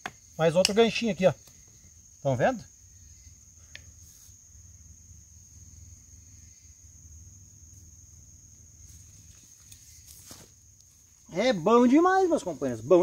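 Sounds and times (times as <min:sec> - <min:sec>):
insect high-pitched call: 0:00.0 - 0:13.0.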